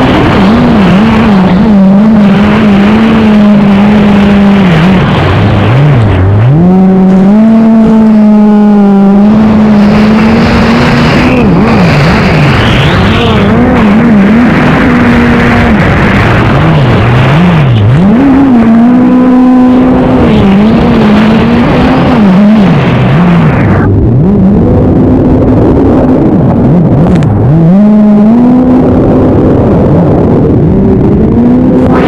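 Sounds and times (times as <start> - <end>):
engine revving: 0.0 - 32.0
heavy noise: 0.0 - 32.0.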